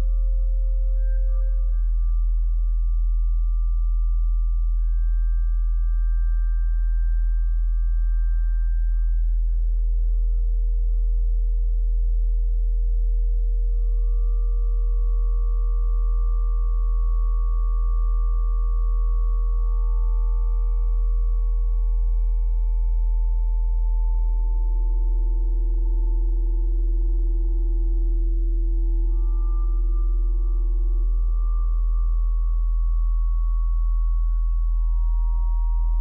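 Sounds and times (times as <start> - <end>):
deep steady hum: 0.0 - 36.0
sustained sine-like tones: 0.0 - 36.0.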